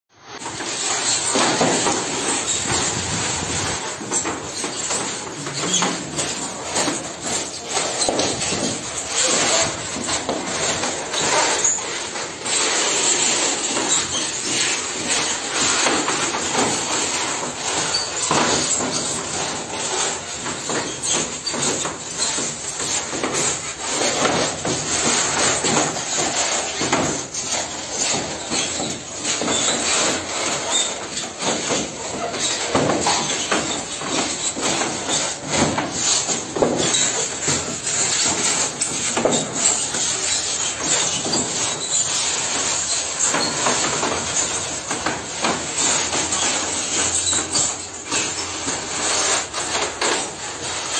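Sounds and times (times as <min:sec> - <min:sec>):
plastic pipe scraping polystyrene: 0:00.2 - 0:50.9.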